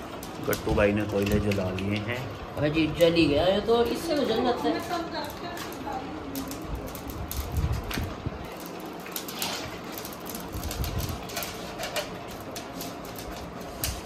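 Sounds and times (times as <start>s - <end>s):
charcoal crackling: 0.0s - 14.0s.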